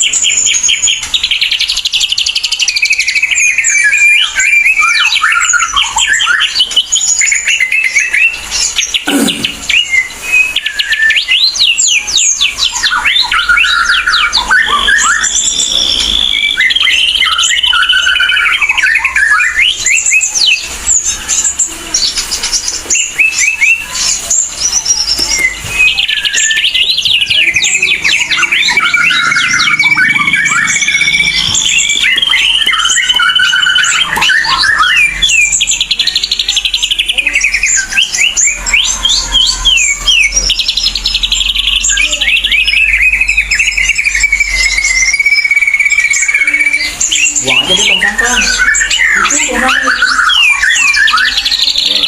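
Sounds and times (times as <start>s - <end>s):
bird singing: 0.0s - 52.0s.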